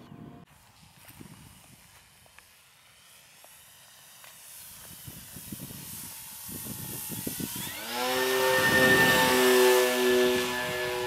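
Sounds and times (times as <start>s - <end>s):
model plane motor whine: 0.5s - 11.0s.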